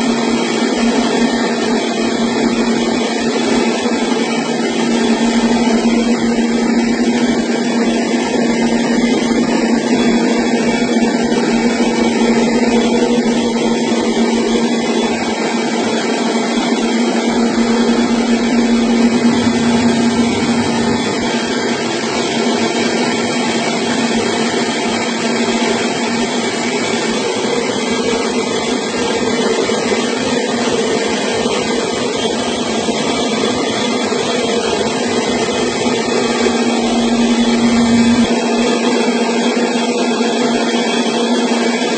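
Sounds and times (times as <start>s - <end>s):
rice milling machine running: 0.0s - 41.9s.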